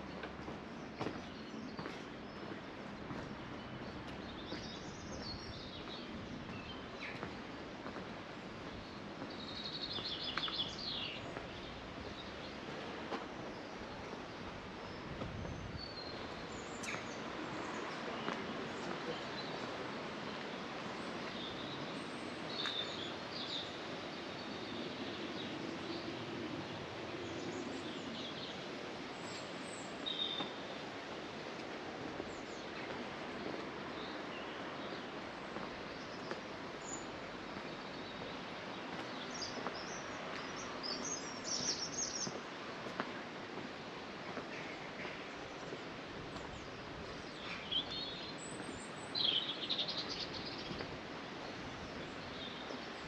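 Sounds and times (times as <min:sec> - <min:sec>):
small birds chirping: 0:00.0 - 0:07.8, 0:08.6 - 0:26.3, 0:27.1 - 0:53.0
outdoor background hiss: 0:00.0 - 0:53.0.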